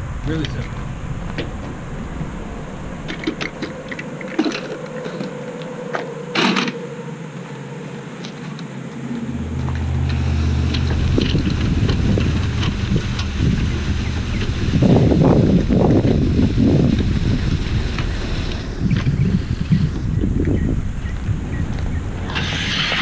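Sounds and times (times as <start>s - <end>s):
low steady hum: 0.0s - 22.4s.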